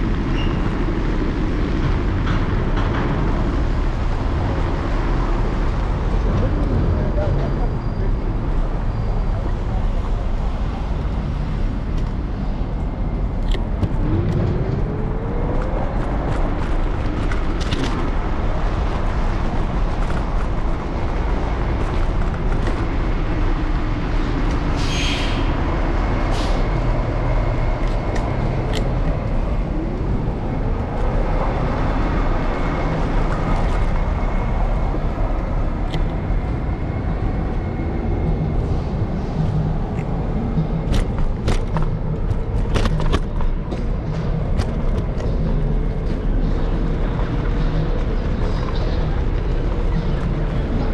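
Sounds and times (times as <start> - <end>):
road rumble: 0.0 - 50.9
vehicles passing: 0.0 - 50.9.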